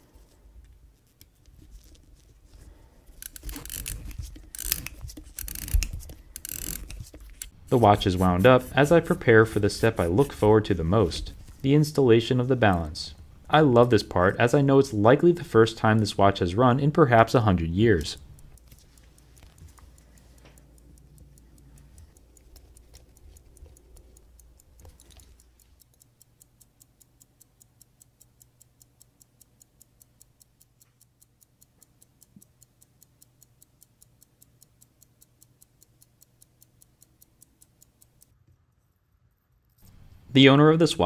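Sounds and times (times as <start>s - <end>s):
watch ticking: 0.6s - 41.0s.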